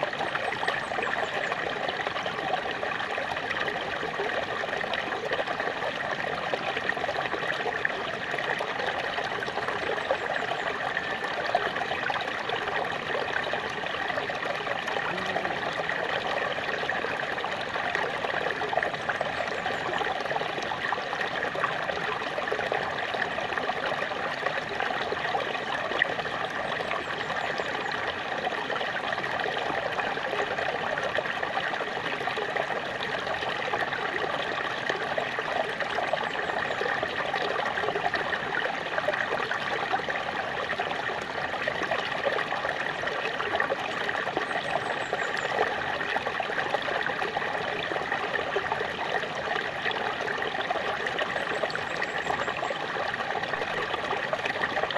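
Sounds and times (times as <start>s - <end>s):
small waterfall splashing: 0.0s - 54.9s.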